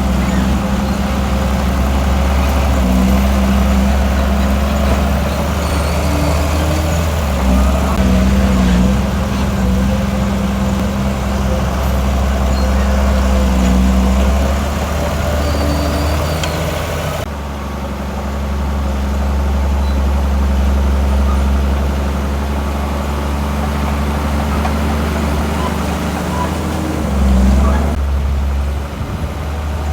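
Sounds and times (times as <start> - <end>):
heavy diesel machinery humming: 0.0 - 29.9.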